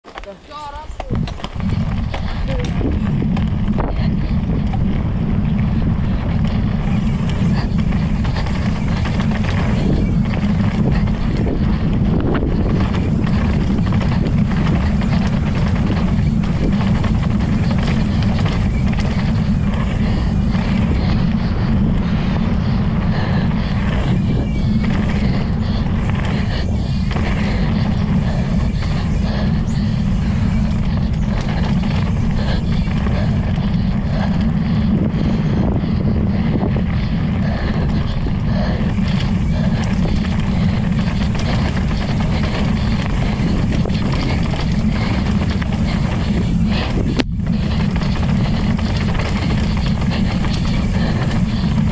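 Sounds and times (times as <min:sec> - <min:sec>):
bike knocks and rattles: 0:00.0 - 0:51.9
wind buffeting microphone: 0:00.0 - 0:51.9.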